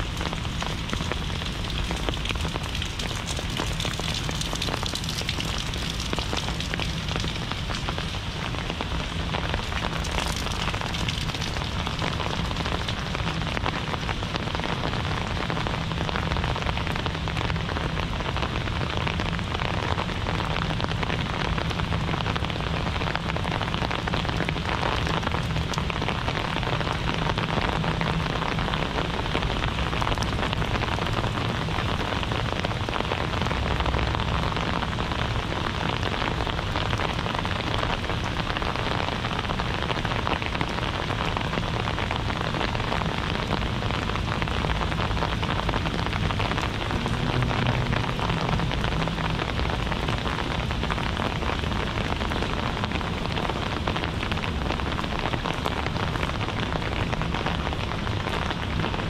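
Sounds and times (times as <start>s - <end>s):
heavy rain splashing: 0.0s - 59.0s.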